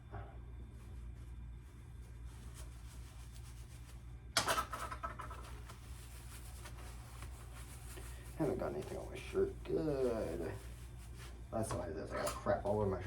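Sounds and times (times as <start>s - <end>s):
steady low hum: 0.0s - 13.0s
rubbing and handling noises: 0.7s - 13.0s.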